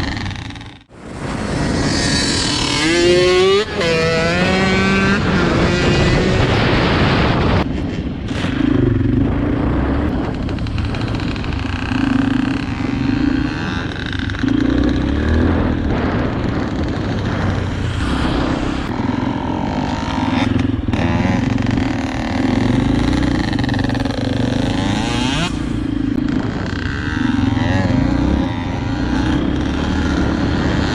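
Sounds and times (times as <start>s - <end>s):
dirt bike engine running: 0.0s - 30.9s.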